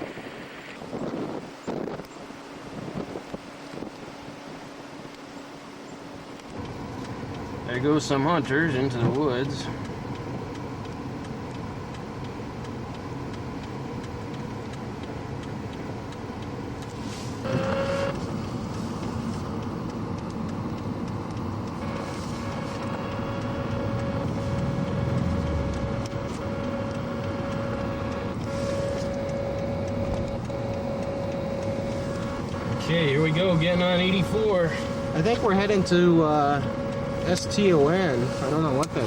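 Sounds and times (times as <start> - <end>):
car engine and road noise: 0.0 - 39.0
steady whine: 0.0 - 39.0.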